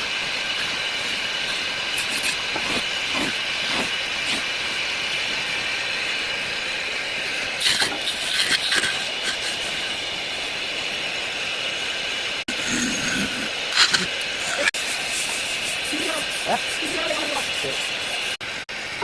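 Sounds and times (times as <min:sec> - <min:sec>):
steady mechanical hiss: 0:00.0 - 0:19.0.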